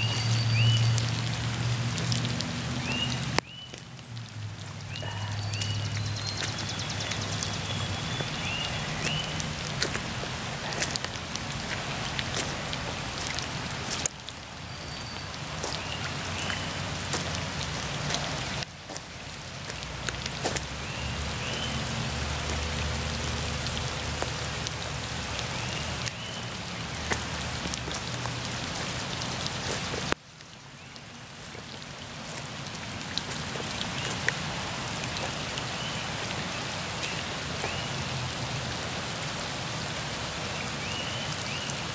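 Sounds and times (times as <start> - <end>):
rain falling on gravel and water: 0.0 - 41.9.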